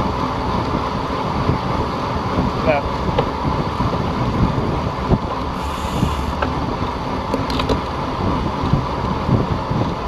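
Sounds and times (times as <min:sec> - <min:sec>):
low rumble of riding: 0:00.0 - 0:10.0
wind buffeting microphone: 0:00.0 - 0:10.0.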